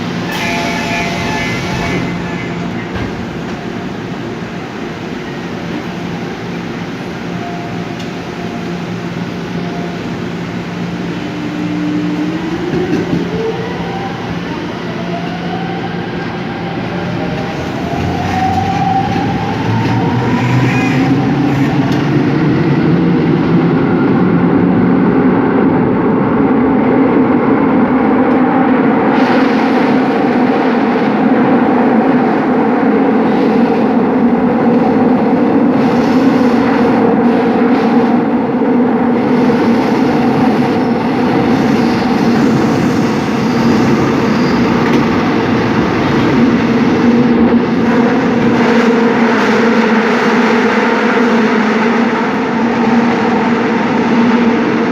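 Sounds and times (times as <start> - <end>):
wheels rumbling on rail: 0.0 - 54.9.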